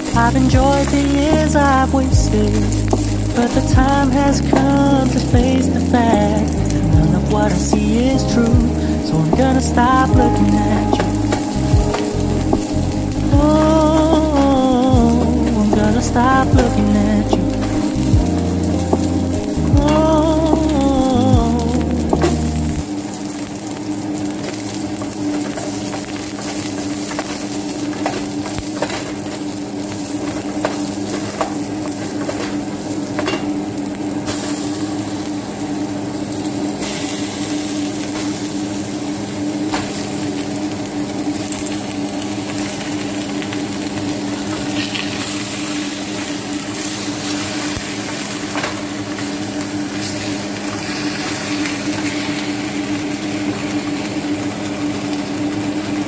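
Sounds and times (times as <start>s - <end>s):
onion sizzling in a pot: 0.0s - 16.4s, 17.0s - 56.0s.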